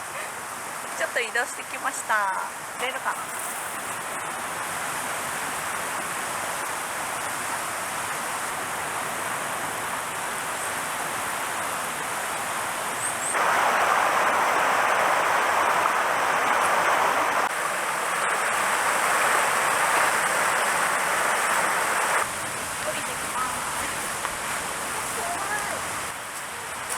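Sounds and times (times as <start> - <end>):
stream water rushing: 0.0 - 26.9.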